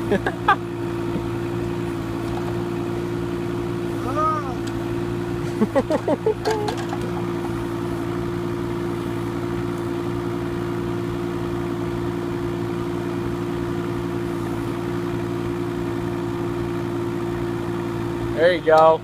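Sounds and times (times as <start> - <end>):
mini excavator diesel engine running: 0.0 - 19.0.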